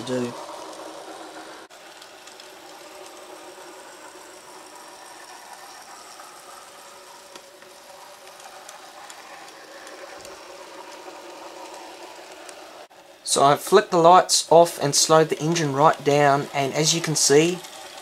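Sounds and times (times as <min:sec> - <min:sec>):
model locomotive motor whirring: 0:00.0 - 0:18.0.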